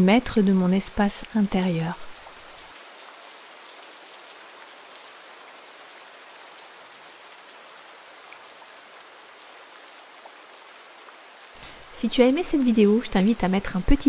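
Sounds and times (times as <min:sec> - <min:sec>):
raindrops pattering: 0:00.0 - 0:14.0
steady rain hiss: 0:00.0 - 0:14.0.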